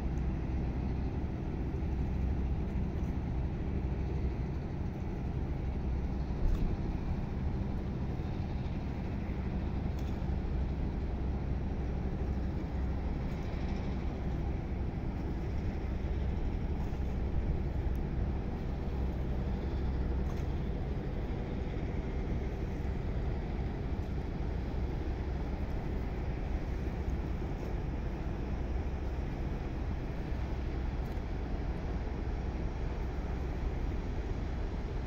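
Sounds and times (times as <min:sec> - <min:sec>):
ship engine low rumble: 0:00.0 - 0:35.0.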